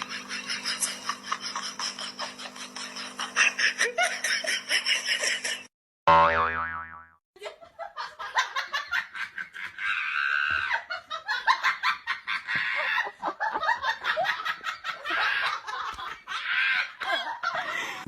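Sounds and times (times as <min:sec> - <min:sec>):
high-pitched laughter: 0:00.0 - 0:05.7, 0:08.4 - 0:17.9.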